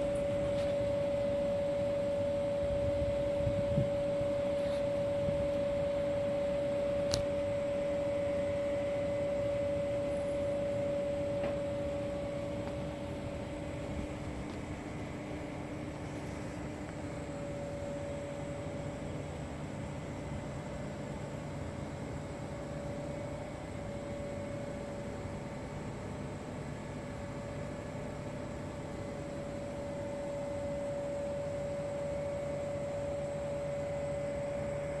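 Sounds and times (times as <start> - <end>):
steady tonal hum: 0.0 - 35.0.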